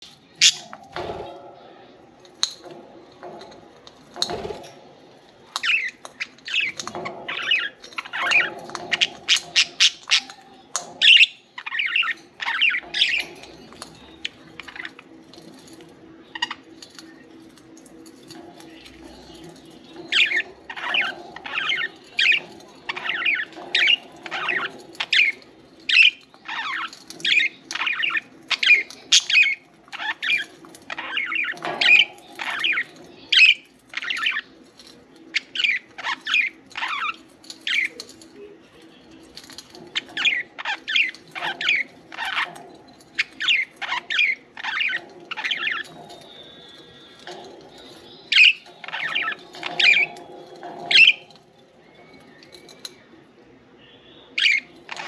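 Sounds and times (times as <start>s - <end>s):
budgerigars chirping and squawking: 5.6s - 15.7s, 18.2s - 38.2s, 39.3s - 53.0s, 54.3s - 55.0s.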